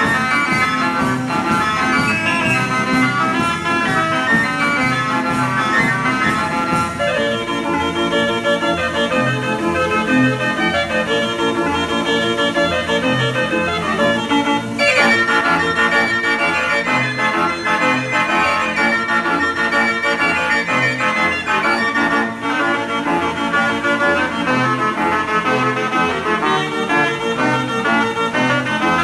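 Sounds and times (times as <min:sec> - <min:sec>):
band organ playing lively tune: 0:00.0 - 0:29.0.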